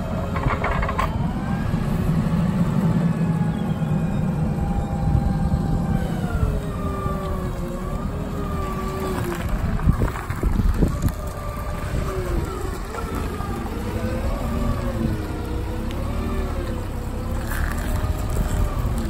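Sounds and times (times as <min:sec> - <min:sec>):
forklift whining: 0:00.0 - 0:19.0
low engine rumble: 0:00.0 - 0:19.0.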